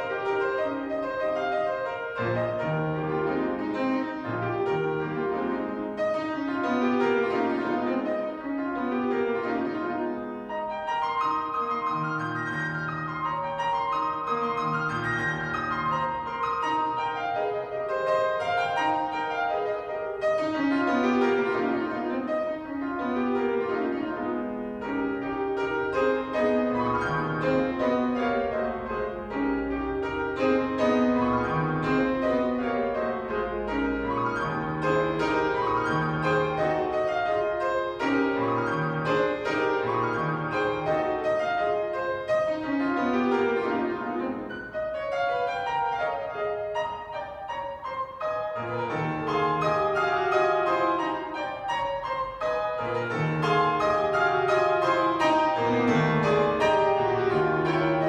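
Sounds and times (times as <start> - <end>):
classical grand piano playing: 0.0 - 58.0.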